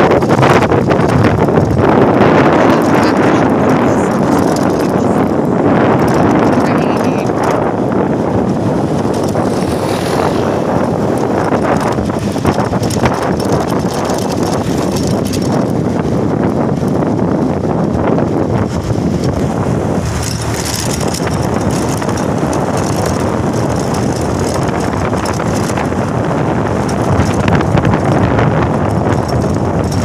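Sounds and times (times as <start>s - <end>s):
moving vehicle rumble: 0.0s - 30.0s
wind buffeting microphone: 0.0s - 30.0s.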